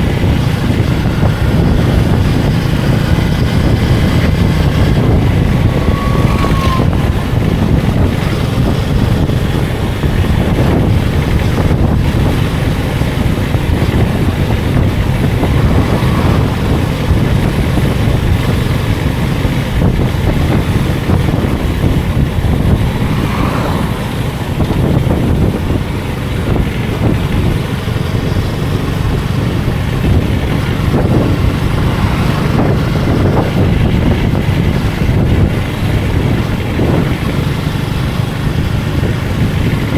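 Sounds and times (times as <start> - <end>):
motorcycle engine rumble: 0.0 - 39.9
wind rushing over microphone: 0.0 - 39.9.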